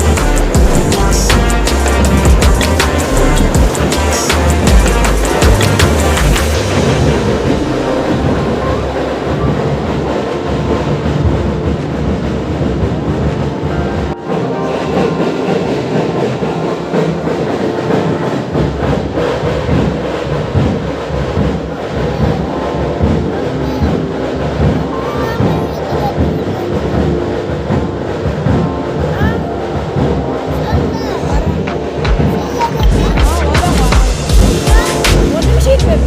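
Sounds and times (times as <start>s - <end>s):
background music: 0.0s - 36.0s.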